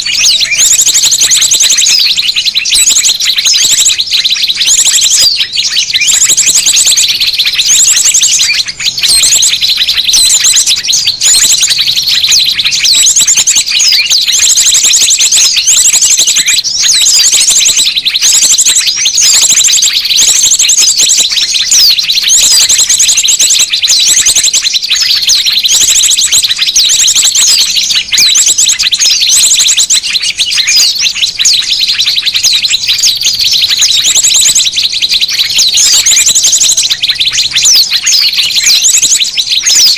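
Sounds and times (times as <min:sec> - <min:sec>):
fast high bird trills: 0:00.0 - 0:39.9
small songbirds chirping: 0:00.0 - 0:39.9.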